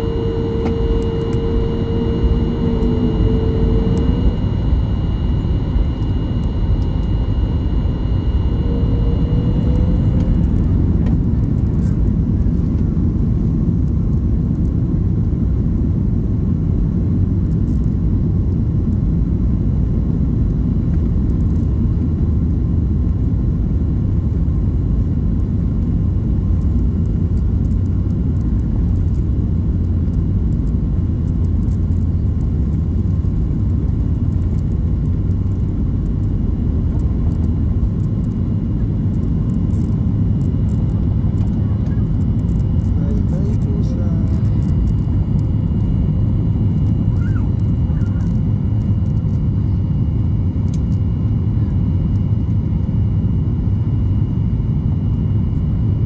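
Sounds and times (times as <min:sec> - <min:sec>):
jet engines rumbling: 0:00.0 - 0:18.4, 0:26.3 - 0:56.0
faint high whine: 0:00.0 - 0:56.0.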